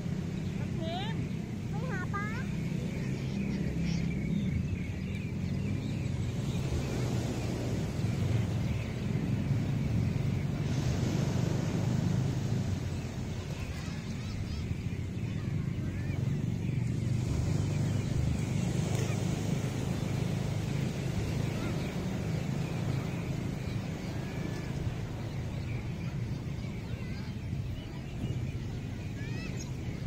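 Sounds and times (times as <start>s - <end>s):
faint distant voices: 0.0s - 30.0s
waves breaking on beach: 0.0s - 30.0s.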